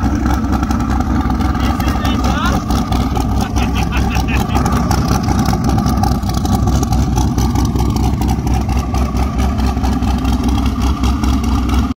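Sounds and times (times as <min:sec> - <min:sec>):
engine idling loud and uneven: 0:00.0 - 0:12.0.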